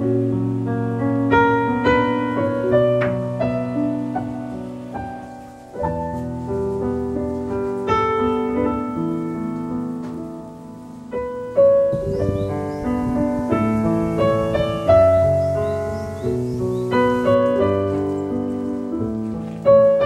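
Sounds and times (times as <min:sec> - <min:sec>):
soft solo piano music: 0:00.0 - 0:20.0.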